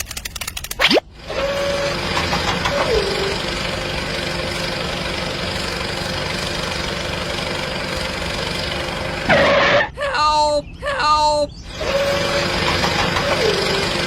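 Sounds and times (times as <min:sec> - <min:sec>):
small engine running: 0:00.0 - 0:10.0, 0:11.5 - 0:14.0.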